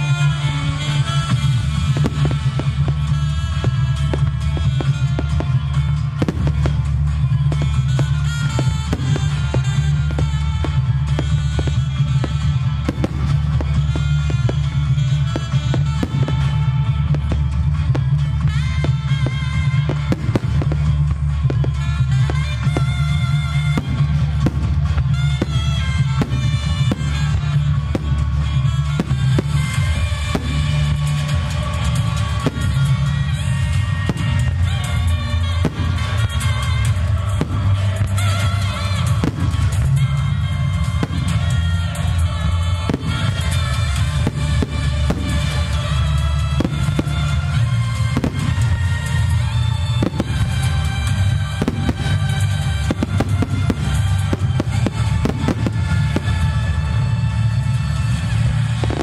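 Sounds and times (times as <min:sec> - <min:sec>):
fireworks bursting: 0:00.0 - 0:59.0
music playing: 0:00.0 - 0:59.0.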